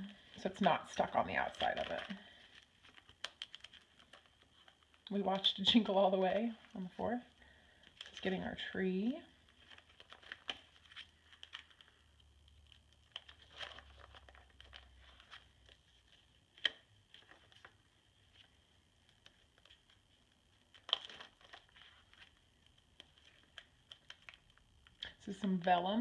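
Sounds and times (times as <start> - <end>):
plastic pages crinkling and rustling: 0.1 - 25.8.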